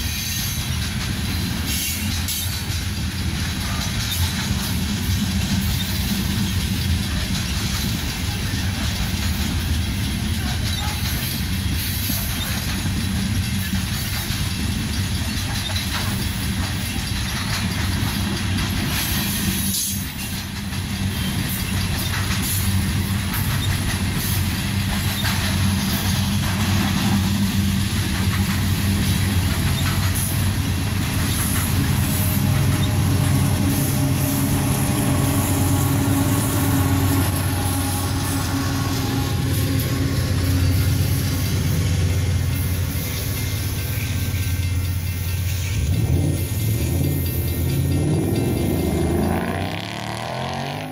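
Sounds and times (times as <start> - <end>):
diesel locomotive engines: 0.0 - 50.9
train wheels clicking over rail joints: 0.0 - 50.9.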